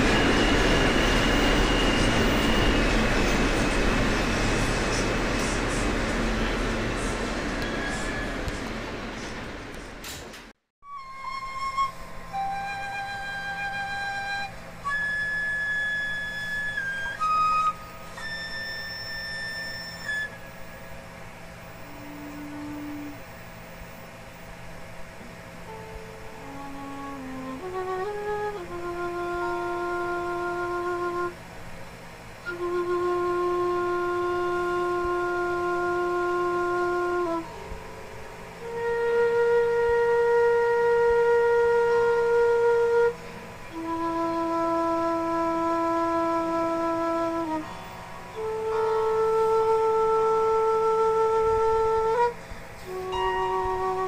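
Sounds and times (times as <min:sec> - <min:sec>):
slow wind instrument music: 0:00.0 - 0:09.6, 0:10.8 - 0:54.0
steady low hum: 0:00.0 - 0:54.0.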